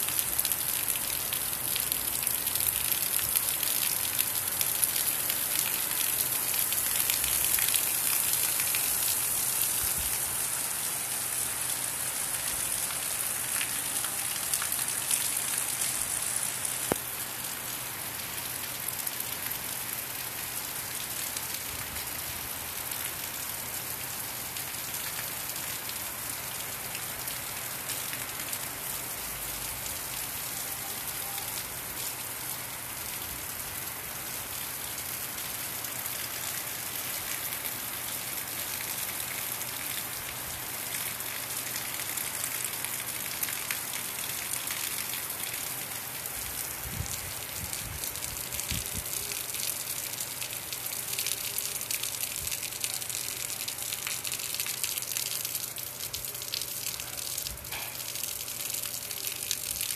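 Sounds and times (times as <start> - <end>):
heavy rain on concrete roof: 0.0 - 59.9.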